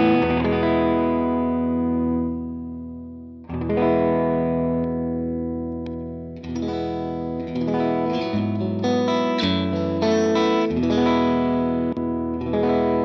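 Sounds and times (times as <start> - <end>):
overdriven electric guitar chords: 0.0 - 13.0.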